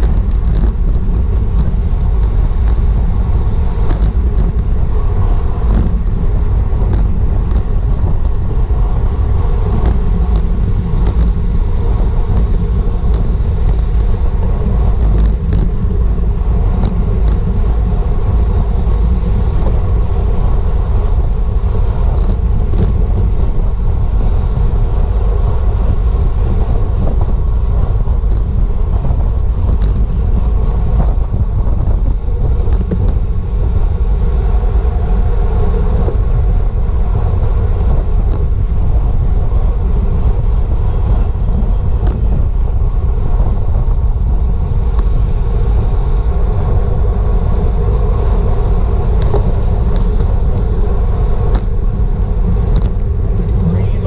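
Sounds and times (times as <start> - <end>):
wind rush over microphone: 0.0 - 54.0.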